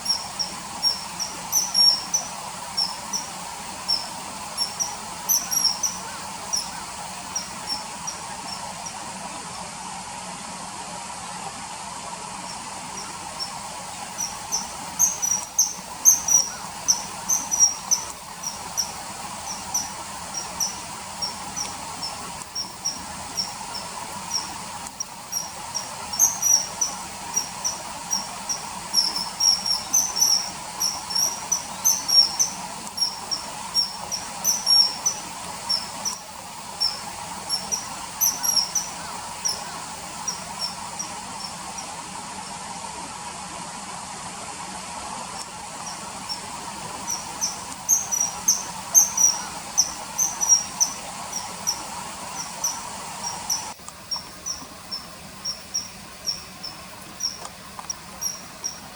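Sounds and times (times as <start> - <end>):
kingfisher high chirps: 0.0 - 9.1, 12.4 - 42.0, 45.4 - 58.9
background hiss: 0.0 - 58.9.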